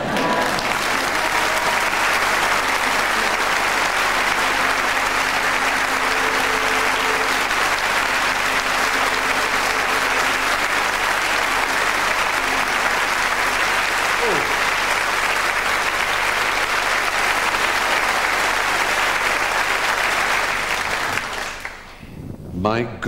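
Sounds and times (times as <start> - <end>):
large audience applauding: 0.0 - 21.9.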